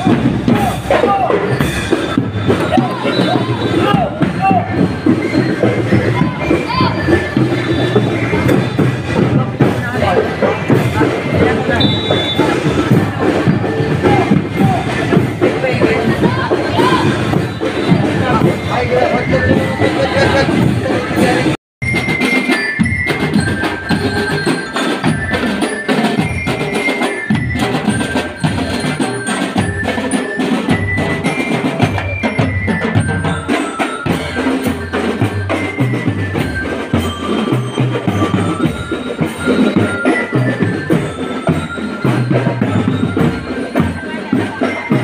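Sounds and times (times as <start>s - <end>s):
bell-lyre melody: 0.0s - 45.0s
snare and bass drums: 0.0s - 45.0s.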